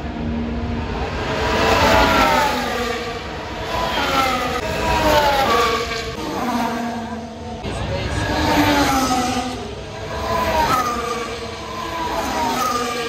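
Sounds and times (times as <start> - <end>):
racing cars passing at speed: 0.0 - 13.0.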